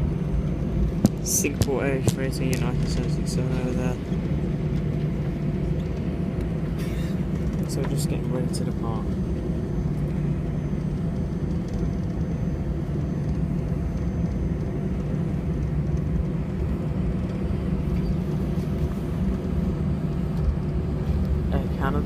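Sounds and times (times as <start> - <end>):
airplane cabin rumble: 0.0 - 22.0
faint steady whine: 0.0 - 22.0.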